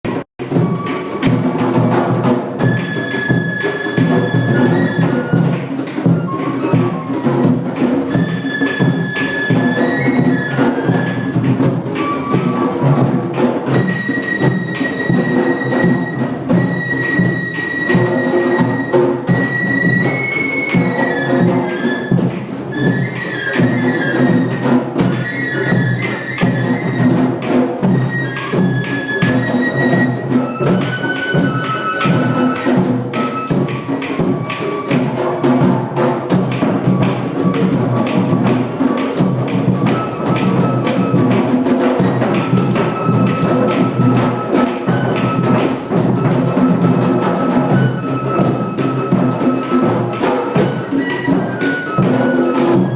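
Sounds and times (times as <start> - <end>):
hand drums playing rhythm: 0.1 - 52.9
flute-like long notes: 2.5 - 36.1, 36.8 - 52.9.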